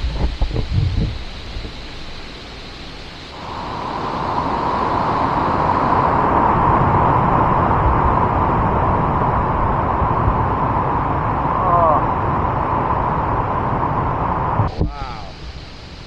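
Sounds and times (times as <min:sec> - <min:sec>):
waterfall rushing: 0:01.2 - 0:16.0.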